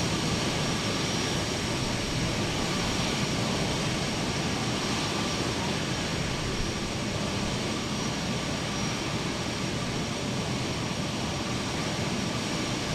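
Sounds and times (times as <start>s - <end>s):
jet engines running: 0.0s - 12.9s.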